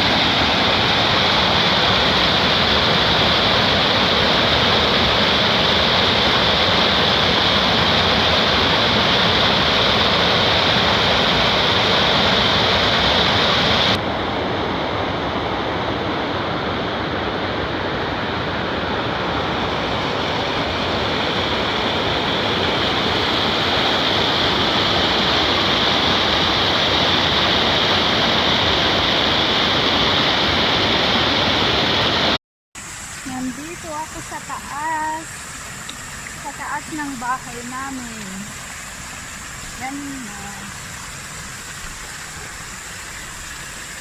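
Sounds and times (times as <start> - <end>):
running water rushing: 0.0 - 44.0.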